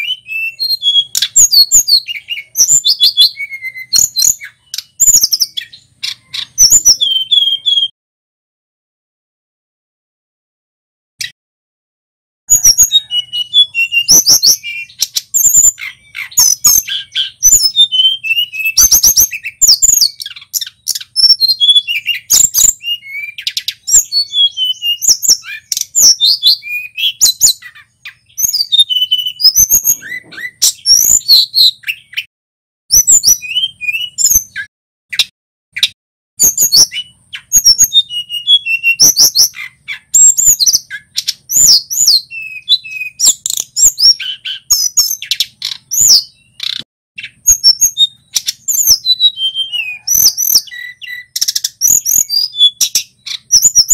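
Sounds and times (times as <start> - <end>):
bird singing chirps and trills: 0.0 - 7.9, 12.5 - 32.3, 32.9 - 53.9.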